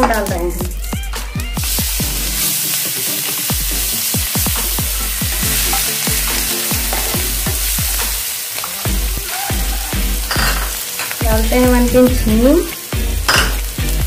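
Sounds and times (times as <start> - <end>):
electronic music with thudding beat: 0.0 - 8.2, 8.9 - 14.0
paste sizzling in hot oil: 0.0 - 14.0.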